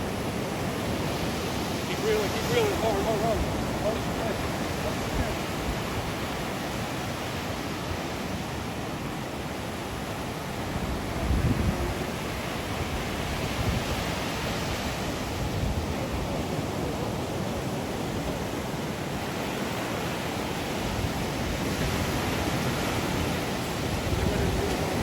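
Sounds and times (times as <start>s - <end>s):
ocean surf: 0.0s - 25.0s
wind: 0.0s - 25.0s.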